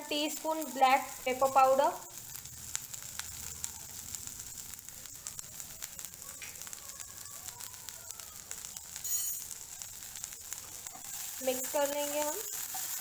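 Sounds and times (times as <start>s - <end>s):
corn frying in butter: 0.0s - 13.0s
small irregular crackles: 0.0s - 13.0s.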